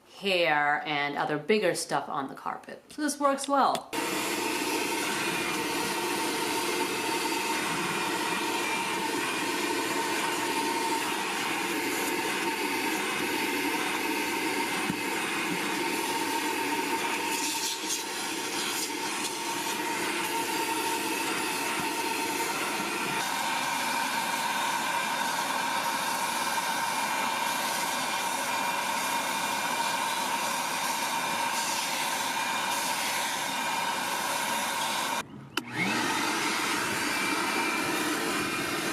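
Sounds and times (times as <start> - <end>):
shop vacuum motor whining: 3.9 - 38.9
vacuum brush on carpet: 4.0 - 38.9.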